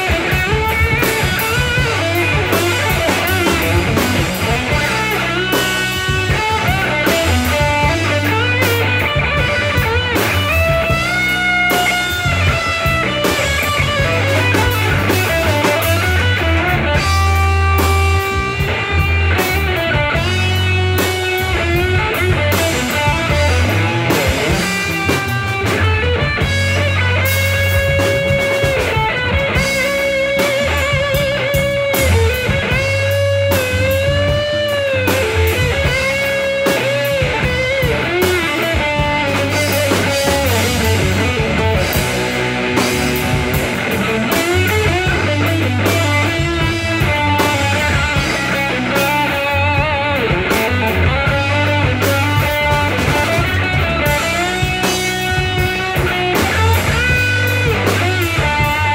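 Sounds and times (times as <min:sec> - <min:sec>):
bass line: 0:00.0 - 0:58.9
drum kit: 0:00.0 - 0:58.9
electric guitar solo: 0:00.0 - 0:58.9.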